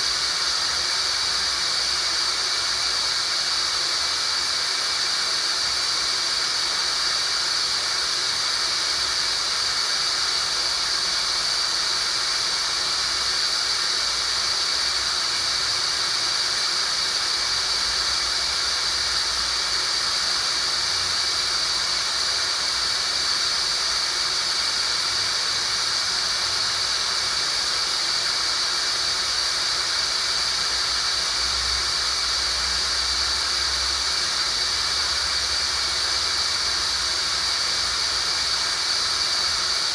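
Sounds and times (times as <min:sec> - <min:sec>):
even hiss: 0:00.0 - 0:39.9.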